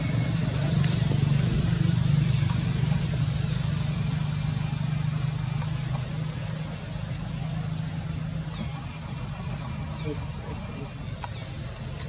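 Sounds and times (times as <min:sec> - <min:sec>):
low mechanical hum: 0:00.0 - 0:12.0
outdoor background noise: 0:00.0 - 0:12.0.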